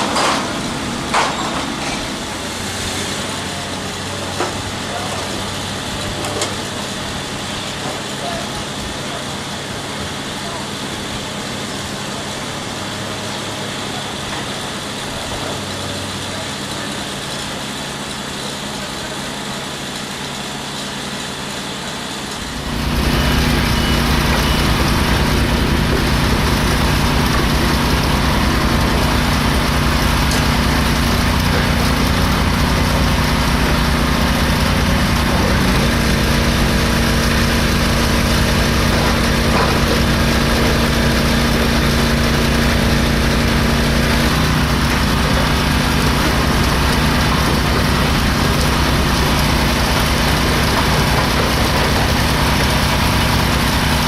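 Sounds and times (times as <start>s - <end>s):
construction machine engine running: 0.0s - 54.0s.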